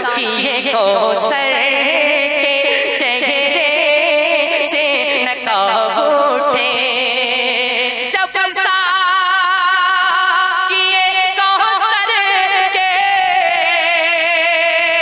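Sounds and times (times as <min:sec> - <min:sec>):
person singing with vibrato: 0:00.0 - 0:15.0.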